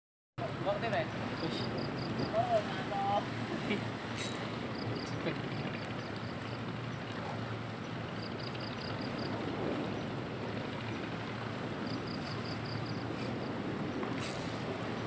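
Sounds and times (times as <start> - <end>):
sea waves on rocky shore: 0.4 - 15.0.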